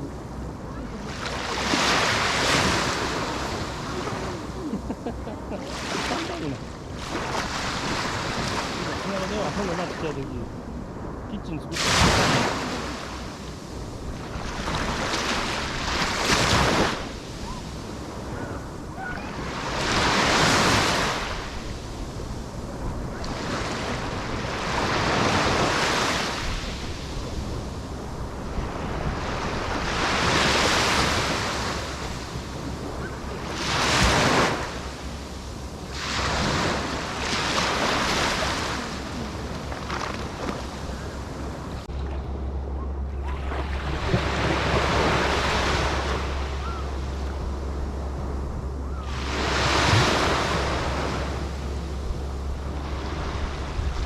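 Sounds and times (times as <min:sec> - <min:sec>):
sea waves breaking: 0:00.0 - 0:54.0
wind on microphone: 0:00.0 - 0:54.0.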